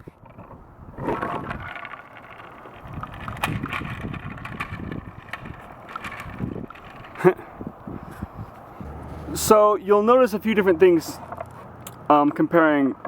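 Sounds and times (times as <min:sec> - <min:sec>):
skateboard wheels rumbling: 0:00.0 - 0:11.9.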